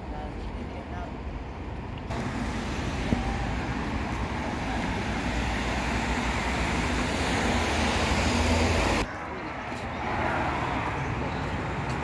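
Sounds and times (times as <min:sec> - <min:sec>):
passing vehicles rushing: 0:01.3 - 0:12.0.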